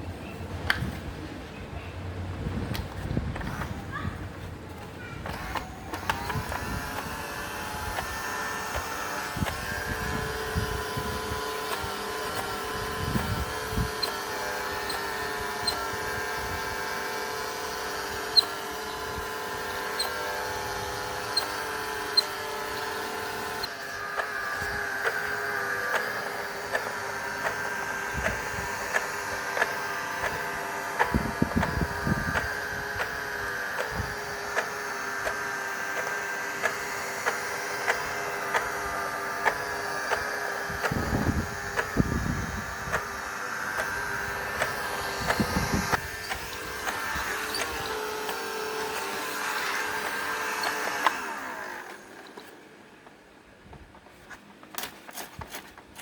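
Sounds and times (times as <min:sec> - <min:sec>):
small electric motor whining: 0:02.7 - 0:52.8.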